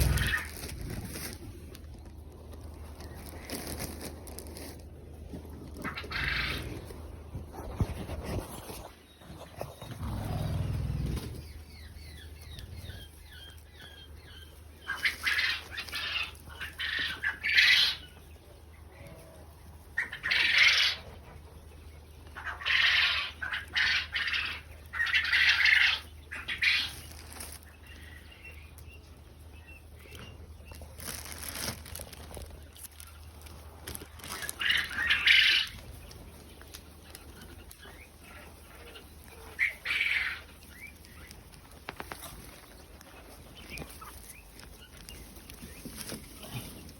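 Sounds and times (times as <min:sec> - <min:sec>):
faint chirping calls: 0:08.6 - 0:46.9.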